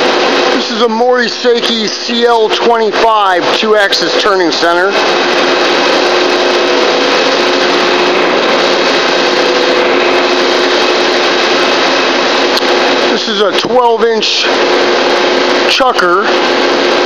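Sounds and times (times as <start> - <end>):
machinery hissing: 0.0 - 17.0.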